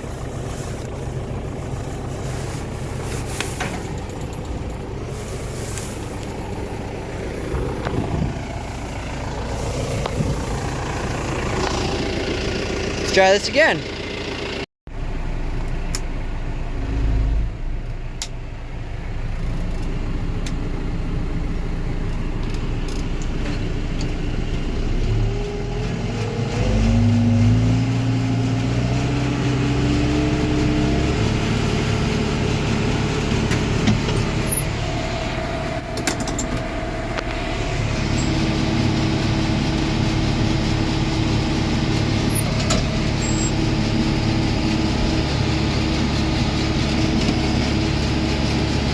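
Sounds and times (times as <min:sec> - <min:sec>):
tractor engine revving: 0:00.0 - 0:14.6, 0:15.2 - 0:17.9, 0:19.2 - 0:48.9.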